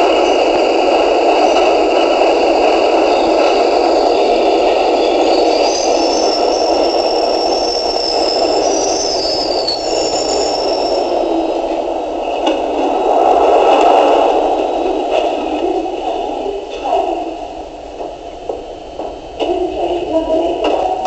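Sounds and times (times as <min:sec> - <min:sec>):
high train squeal: 0:00.0 - 0:21.0
subway train rattling rumble: 0:00.0 - 0:21.0.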